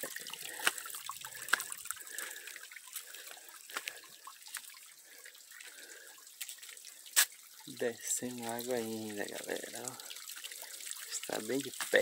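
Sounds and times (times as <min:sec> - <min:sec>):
water drips and splashes: 0:00.0 - 0:12.0
water trickling over rock: 0:00.0 - 0:12.0.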